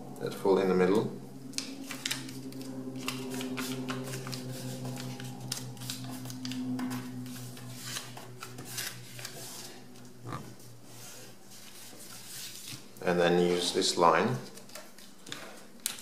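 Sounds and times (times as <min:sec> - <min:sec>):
low hum: 0:00.0 - 0:13.8
paper rustling and crinkling: 0:01.8 - 0:09.8, 0:10.9 - 0:16.0.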